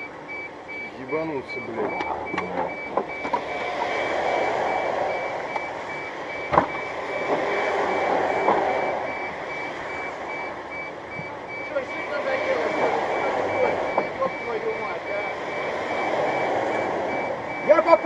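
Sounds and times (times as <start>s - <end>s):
rapid electronic warning beeps: 0.0s - 18.0s
traffic and engine rumble: 0.0s - 18.0s.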